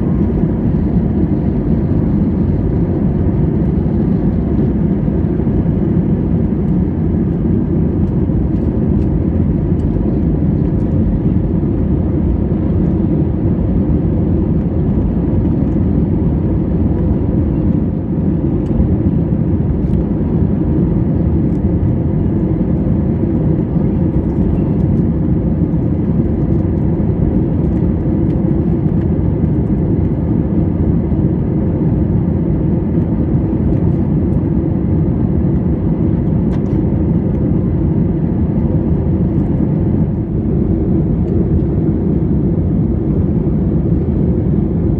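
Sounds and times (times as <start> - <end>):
aircraft engines rumbling: 0.0 - 44.9.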